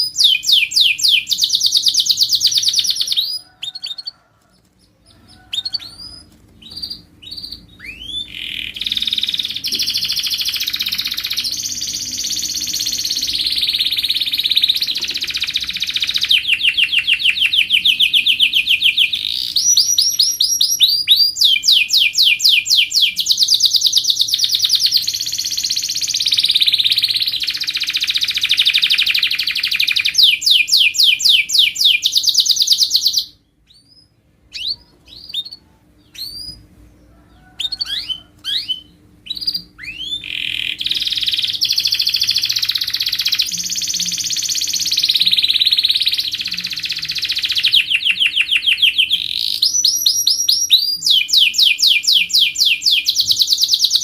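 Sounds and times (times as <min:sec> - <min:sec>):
bird chirps: 0:00.0 - 0:54.0
canary singing trills: 0:00.0 - 0:54.0.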